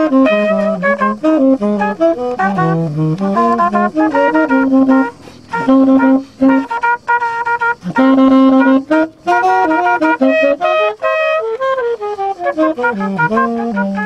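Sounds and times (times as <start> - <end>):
tenor saxophone jazz line: 0.0 - 14.0
trumpet playing jazz: 0.0 - 14.0.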